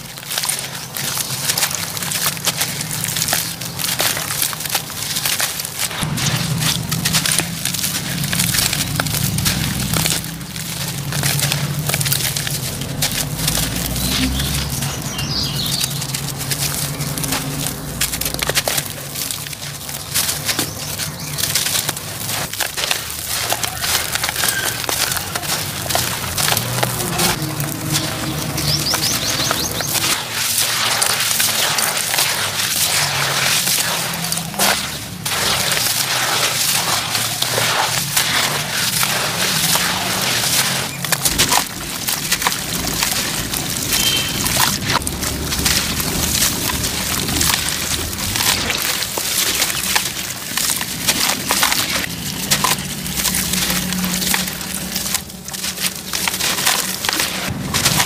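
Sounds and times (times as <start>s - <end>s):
hands crumbling wet cement lumps: 0.0s - 58.0s.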